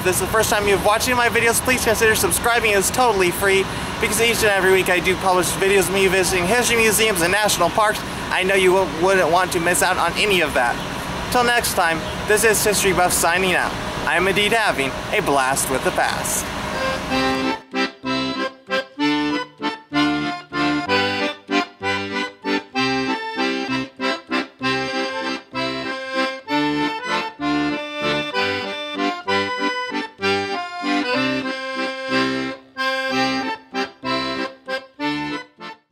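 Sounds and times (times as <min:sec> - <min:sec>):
instrumental music with bass line: 0:00.0 - 0:35.9.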